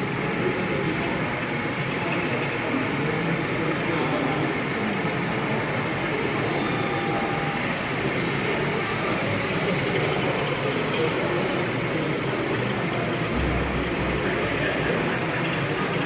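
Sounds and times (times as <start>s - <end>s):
crowd chatter in large hall: 0.0s - 16.0s.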